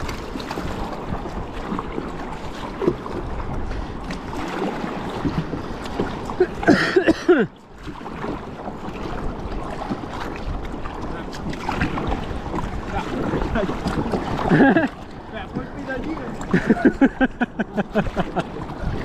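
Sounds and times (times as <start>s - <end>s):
water around a kayak: 0.0s - 19.0s
wind: 0.0s - 19.0s.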